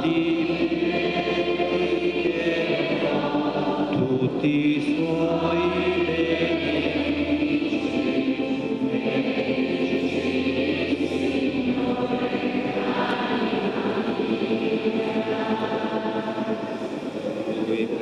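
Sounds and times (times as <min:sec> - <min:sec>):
church choir singing a hymn: 0:00.0 - 0:18.0.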